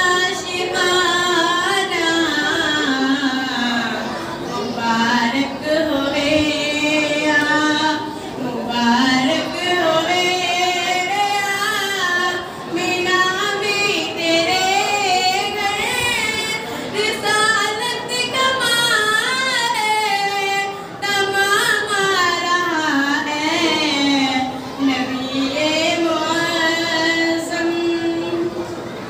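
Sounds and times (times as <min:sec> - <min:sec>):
woman singing devotional song: 0:00.0 - 0:28.8.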